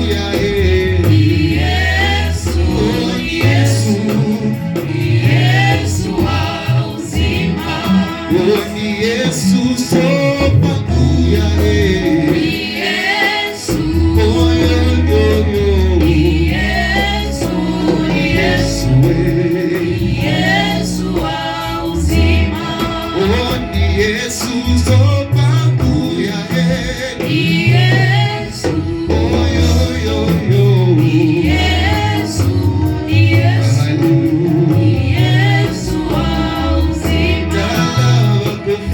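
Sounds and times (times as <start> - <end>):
band with steady bass line: 0.0 - 38.9
voices singing gospel song: 0.0 - 38.9.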